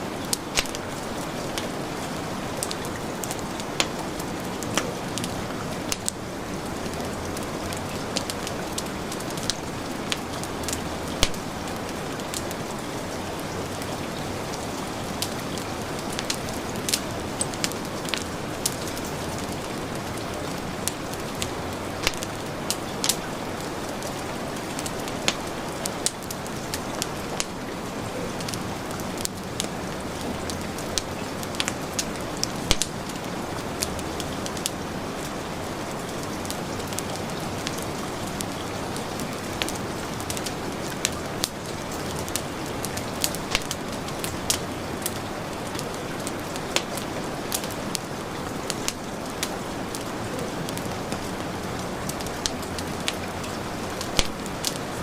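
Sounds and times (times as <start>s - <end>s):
heavy rain: 0.0s - 55.0s
wood fire crackling: 0.0s - 55.0s.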